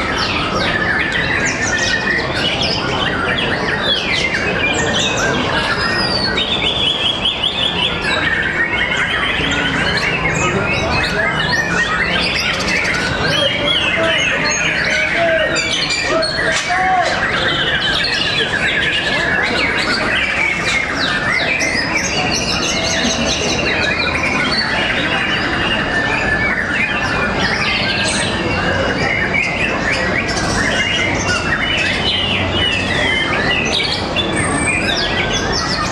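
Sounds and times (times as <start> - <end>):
birds whistling and trilling: 0.0 - 35.9.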